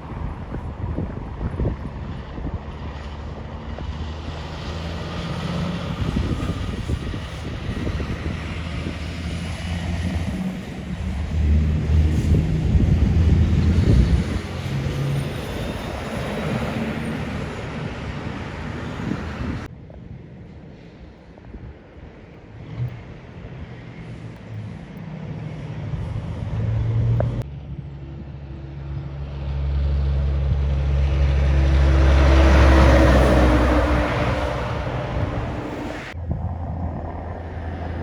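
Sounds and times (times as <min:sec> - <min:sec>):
traffic noise: 0:00.0 - 0:38.0
heavy truck driving past: 0:00.1 - 0:19.7, 0:22.6 - 0:38.0.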